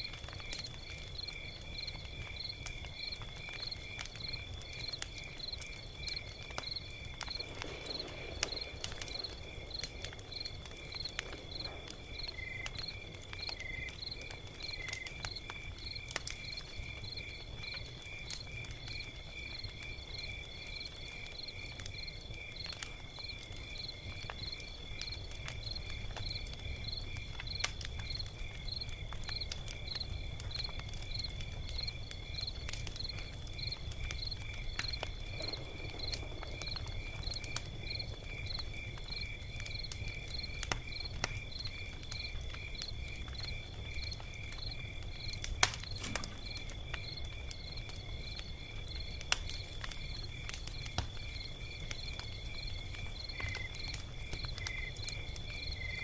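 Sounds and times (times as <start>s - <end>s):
crickets chirping: 0.0s - 56.0s
log fire crackling and popping: 0.0s - 56.0s.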